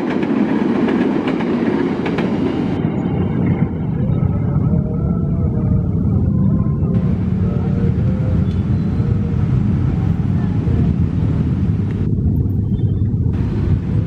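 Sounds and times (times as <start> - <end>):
train passing at speed: 0.0 - 5.6, 6.8 - 12.1, 13.4 - 14.0.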